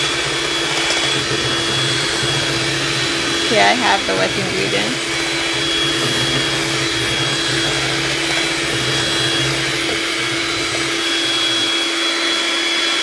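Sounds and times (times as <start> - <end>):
electric hand mixer whirring: 0.0 - 13.0.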